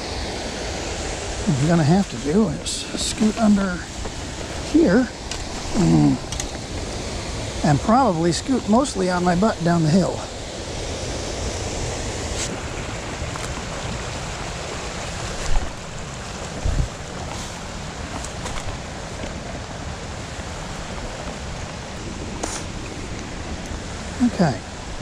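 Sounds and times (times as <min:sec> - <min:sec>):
creek running over rocks: 0:00.0 - 0:25.0.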